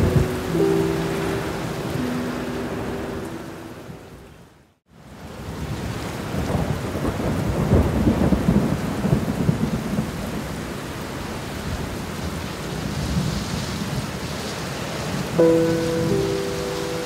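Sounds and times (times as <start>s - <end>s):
rain on foliage: 0.0s - 17.0s.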